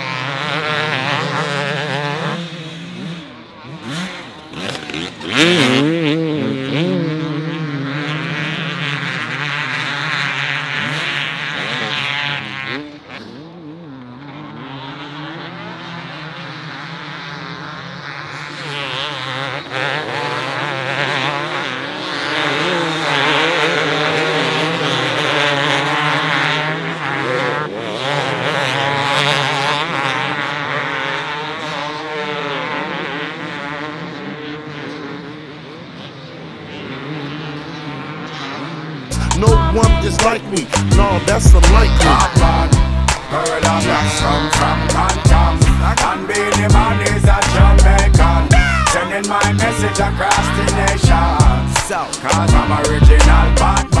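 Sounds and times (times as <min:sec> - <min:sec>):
motocross bikes revving: 0:00.0 - 0:54.0.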